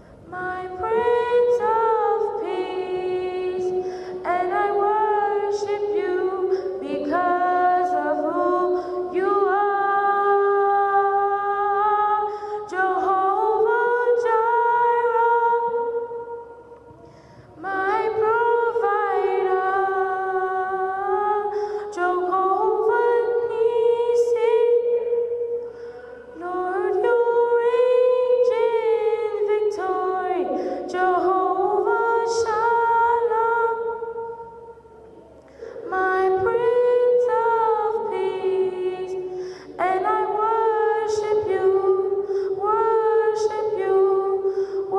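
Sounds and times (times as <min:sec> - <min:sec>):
girl singing into microphone: 0:00.0 - 0:44.9.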